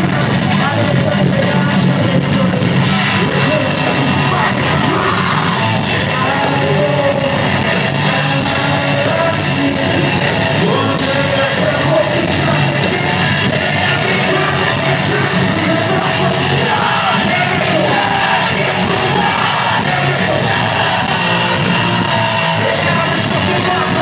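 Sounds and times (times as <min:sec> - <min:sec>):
live heavy metal band playing: 0:00.0 - 0:24.0
person yelling singing: 0:00.0 - 0:24.0.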